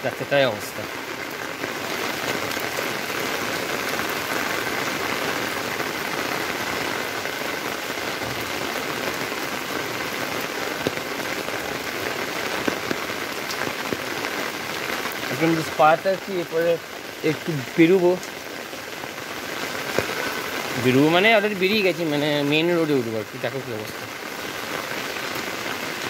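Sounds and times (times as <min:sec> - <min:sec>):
rain falling on flooded street: 0:00.0 - 0:26.0.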